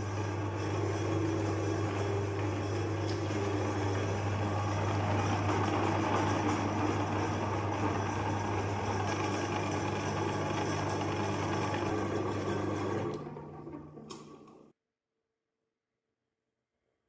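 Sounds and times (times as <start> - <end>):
electric meat grinder motor hum: 0.0 - 14.7.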